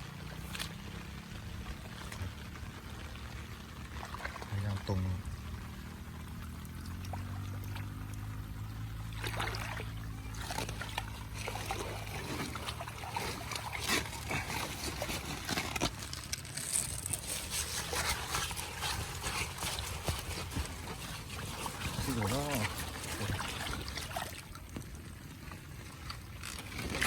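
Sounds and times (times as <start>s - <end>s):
water splashes: 0.0s - 27.0s
water trickling and sloshing: 0.0s - 27.0s.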